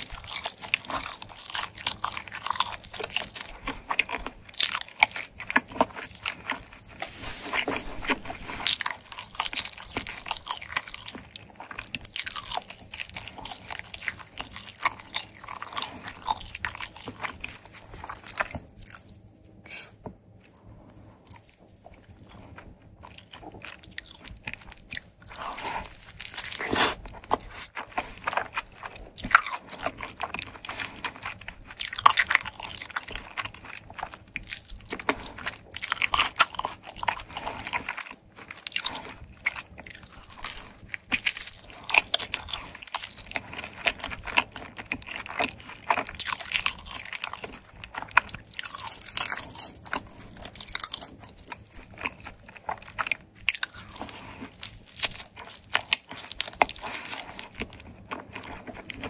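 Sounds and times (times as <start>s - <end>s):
wet chewing clicks: 0.0s - 7.0s, 8.0s - 19.2s, 21.2s - 59.0s
crisp crunching of pizza crust: 0.0s - 19.4s, 20.3s - 59.0s.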